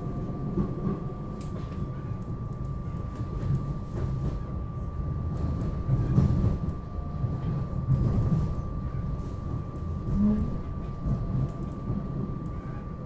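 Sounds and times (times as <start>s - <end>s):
rumble of train wheels on track: 0.0s - 13.0s.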